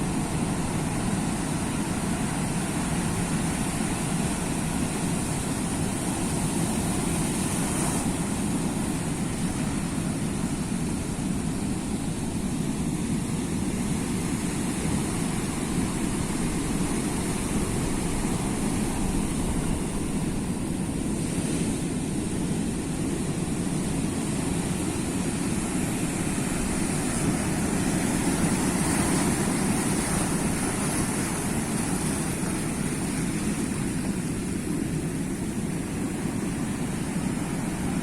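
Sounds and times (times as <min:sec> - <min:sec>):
sea waves washing in: 0:00.0 - 0:38.0.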